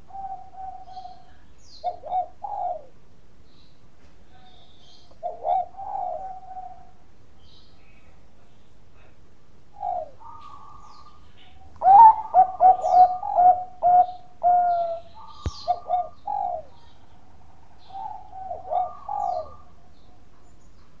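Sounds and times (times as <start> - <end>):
dove cooing: 0.0 - 3.0, 4.3 - 7.1, 9.0 - 20.5.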